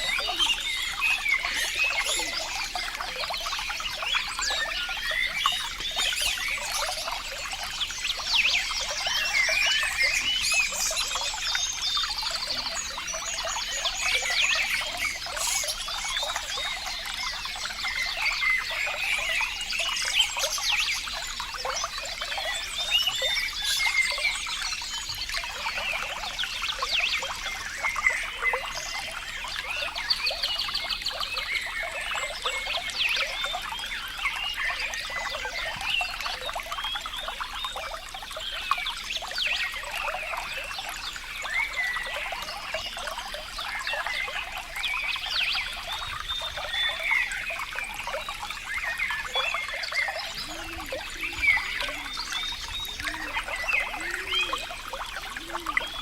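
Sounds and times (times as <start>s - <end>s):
water trickling and bubbling: 0.0s - 56.0s.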